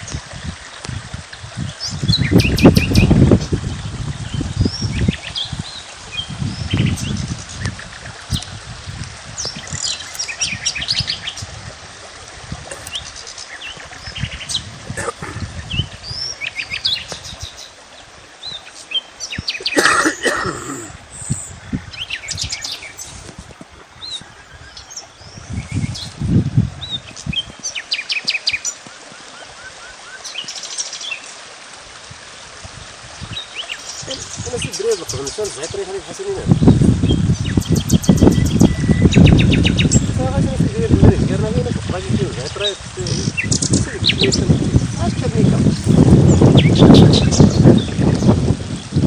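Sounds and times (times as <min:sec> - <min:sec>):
small birds chirping and trilling: 0:01.6 - 0:08.6, 0:09.3 - 0:11.6, 0:12.7 - 0:31.4, 0:32.8 - 0:49.0.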